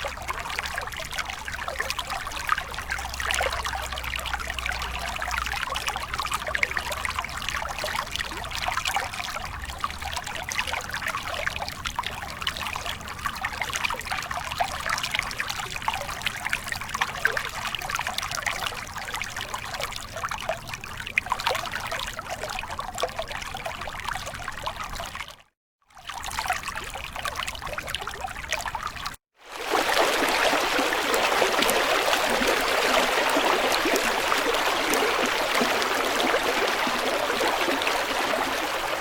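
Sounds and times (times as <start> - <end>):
small stream trickling: 0.0 - 39.0.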